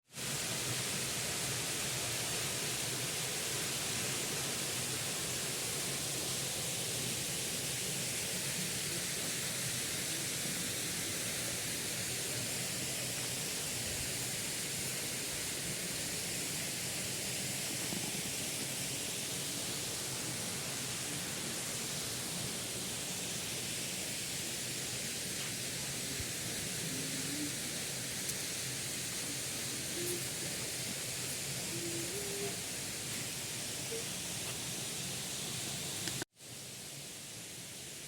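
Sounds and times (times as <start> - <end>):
waterfall rushing: 0.2 - 36.2.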